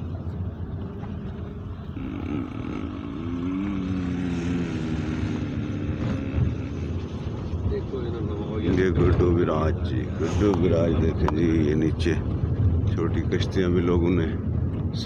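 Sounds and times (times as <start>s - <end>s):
car engine hum: 0.0s - 15.0s
low road rumble: 0.0s - 15.0s.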